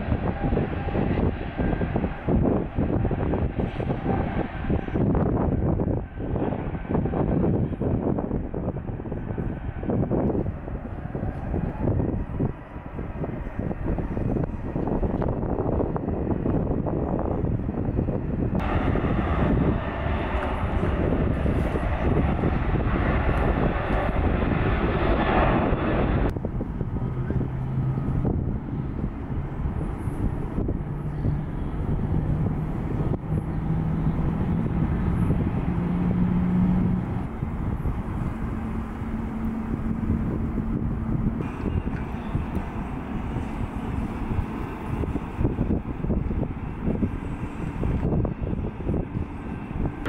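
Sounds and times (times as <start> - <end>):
jet engines roaring: 0.0 - 50.0
low hum rising in pitch: 0.0 - 50.0.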